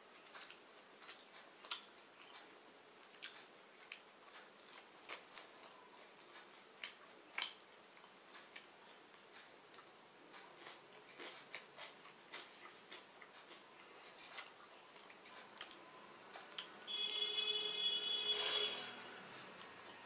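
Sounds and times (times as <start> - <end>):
chewing clicks and crunches: 0.2 - 16.7.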